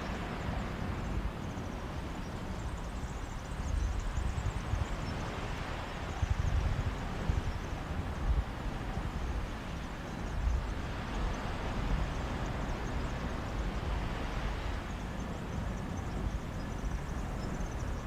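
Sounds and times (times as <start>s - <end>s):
sea breeze: 0.0s - 18.0s
sea waves washing on beach: 0.0s - 18.0s.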